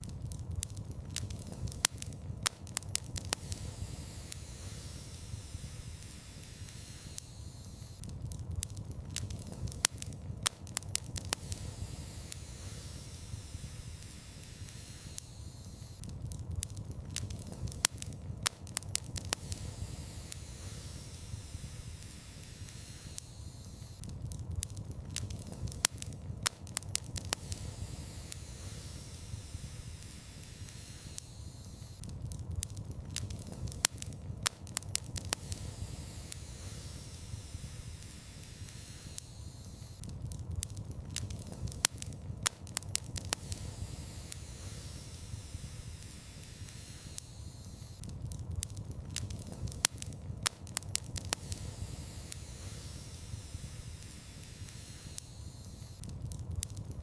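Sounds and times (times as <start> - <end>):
fire hiss and low rumble: 0.0 - 57.0
wood fire popping: 0.0 - 57.0.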